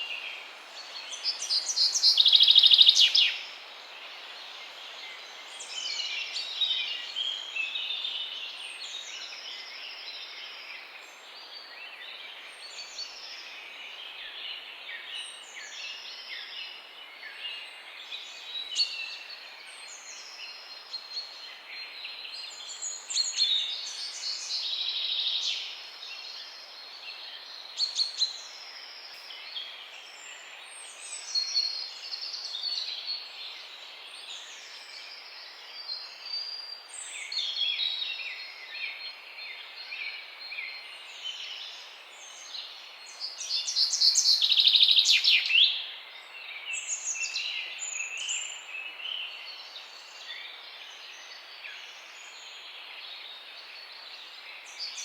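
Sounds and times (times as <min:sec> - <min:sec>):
background hiss: 0:00.0 - 0:55.0.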